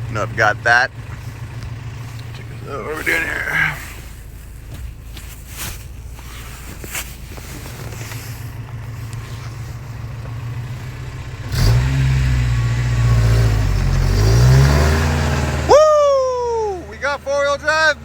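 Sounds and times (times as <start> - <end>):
engine knocks: 0.0 - 15.8
pickup engine revving: 0.0 - 18.0.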